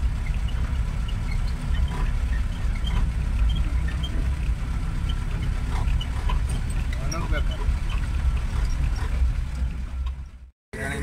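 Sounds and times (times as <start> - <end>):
jeep engine rumbling: 0.0 - 11.0.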